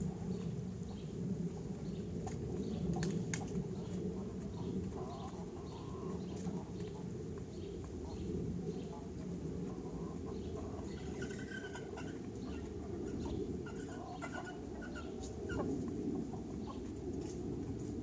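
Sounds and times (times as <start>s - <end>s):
chickens clucking: 0.0s - 18.0s
steady low rumble: 0.0s - 18.0s.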